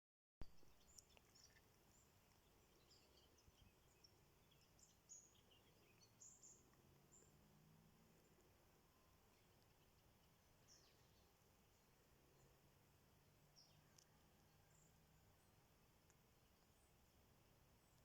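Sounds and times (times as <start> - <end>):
background hiss: 0.4 - 18.0
small birds chirping: 0.4 - 18.0.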